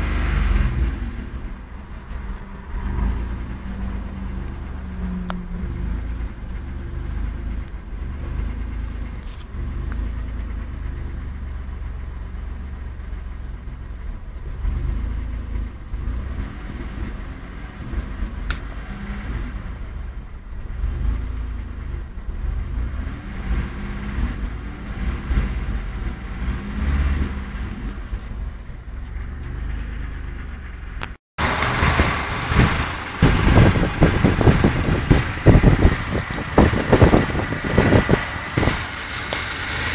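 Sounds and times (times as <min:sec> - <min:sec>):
car engine idling unevenly: 0:00.0 - 0:23.2, 0:27.3 - 0:39.9.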